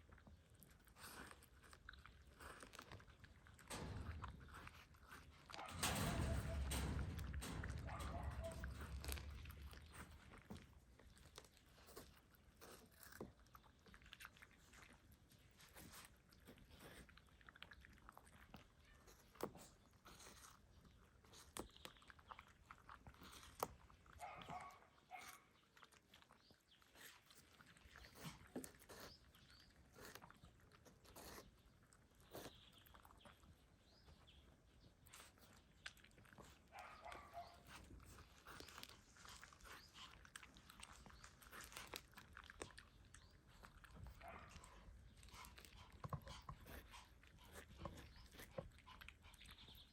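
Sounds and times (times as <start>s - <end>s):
pets chewing watermelon: 0.0s - 49.9s.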